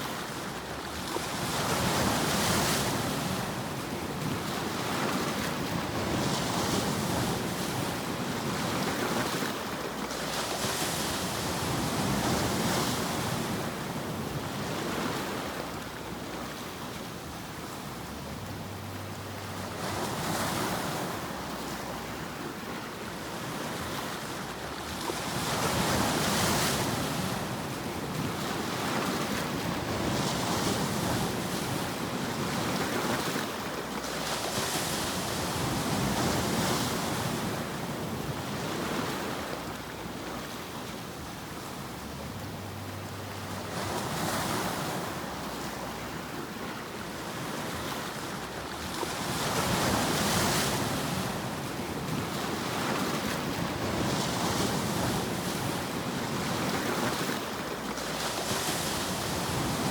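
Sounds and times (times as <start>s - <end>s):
surf-like rushing noise: 0.0s - 59.9s.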